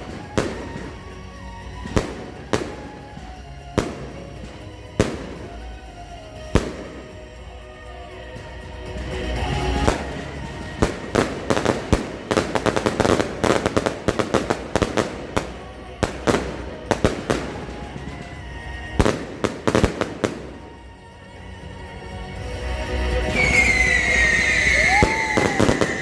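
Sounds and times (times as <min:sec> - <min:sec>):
fireworks banging and cracking: 0:00.0 - 0:26.0.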